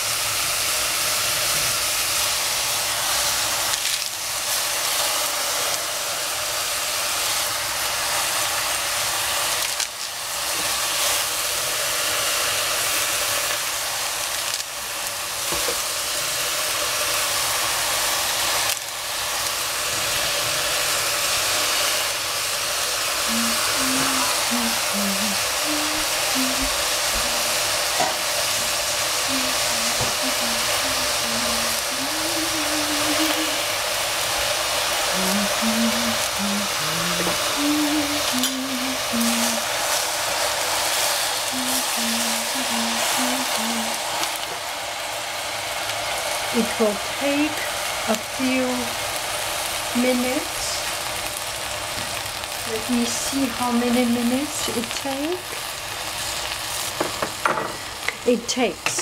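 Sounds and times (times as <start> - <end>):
mushrooms sizzling in oil: 0.0 - 59.0.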